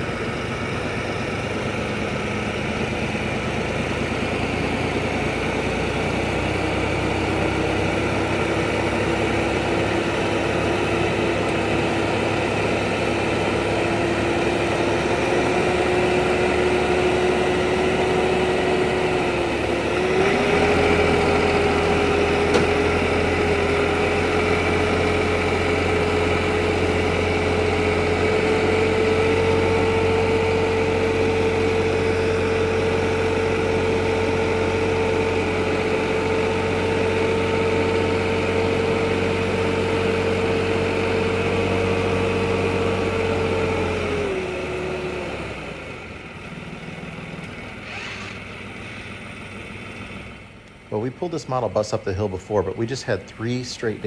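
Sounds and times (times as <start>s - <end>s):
tractor engine under load: 0.0s - 54.0s.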